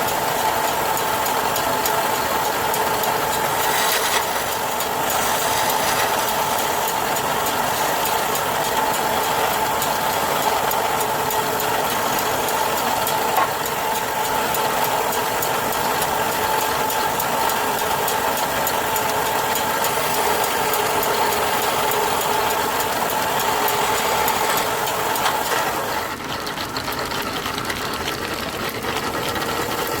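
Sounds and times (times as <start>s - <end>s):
wood lathe droning and whining: 0.0s - 30.0s.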